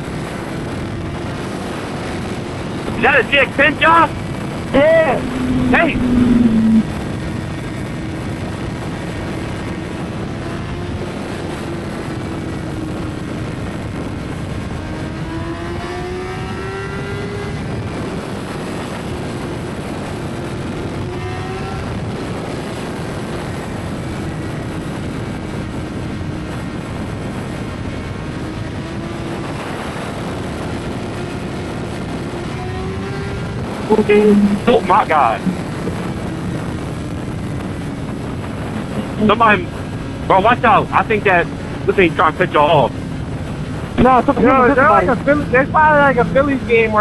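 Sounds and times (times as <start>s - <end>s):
wind and road rush: 0.0s - 47.0s
motorcycle engine accelerating: 3.8s - 24.7s, 28.0s - 47.0s.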